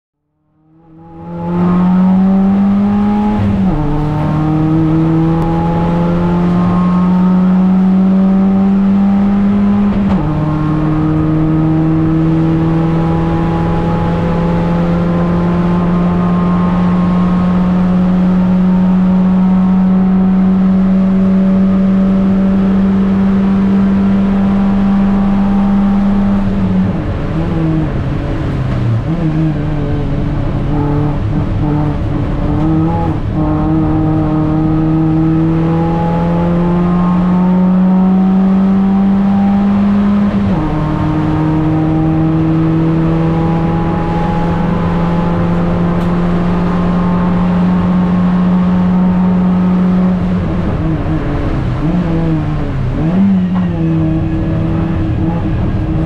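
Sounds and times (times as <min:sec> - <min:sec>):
race car engine accelerating: 0:00.5 - 0:56.0.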